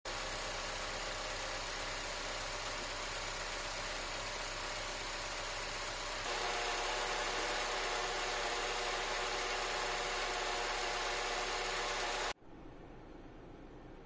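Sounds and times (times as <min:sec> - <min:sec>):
car engine idling: 0:00.1 - 0:14.0.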